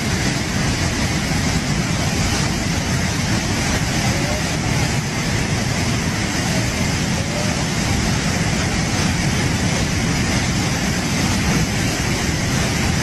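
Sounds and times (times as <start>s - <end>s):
flood torrent rushing: 0.0s - 13.0s.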